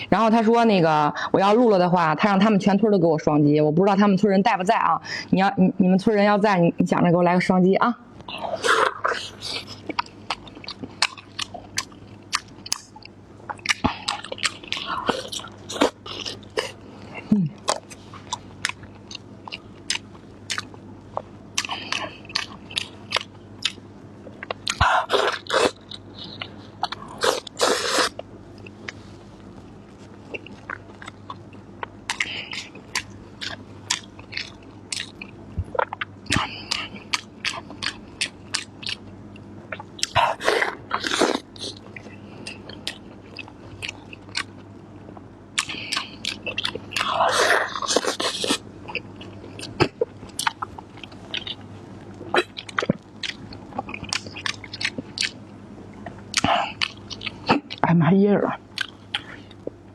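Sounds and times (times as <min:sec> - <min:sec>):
person chewing crunchy food: 0:08.2 - 0:57.8, 0:58.6 - 0:59.9.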